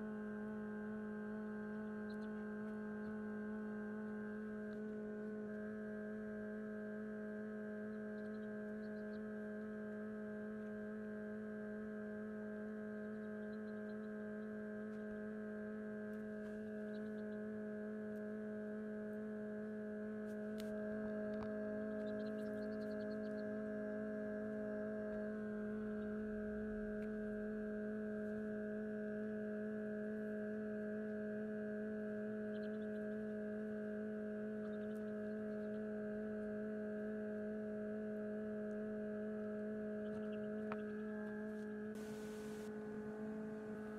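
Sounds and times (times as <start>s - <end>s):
incubator electrical hum: 0.0s - 43.9s.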